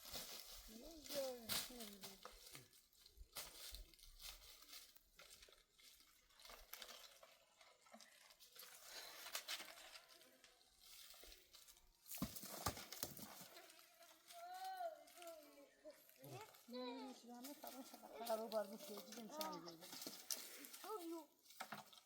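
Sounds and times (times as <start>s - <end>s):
faint rustling and crinkling: 0.0s - 22.0s.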